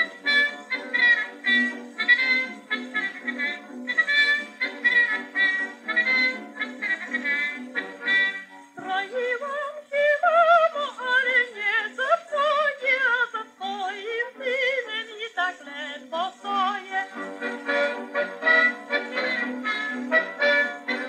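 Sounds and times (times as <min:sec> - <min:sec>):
instrumental accompaniment: 0:00.0 - 0:21.0
person singing with vibrato: 0:00.0 - 0:21.0.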